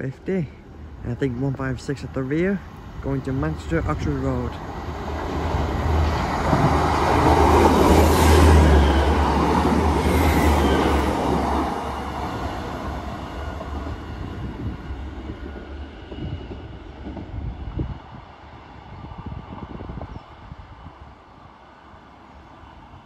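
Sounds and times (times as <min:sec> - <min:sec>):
train wheels on track: 0:00.0 - 0:23.0.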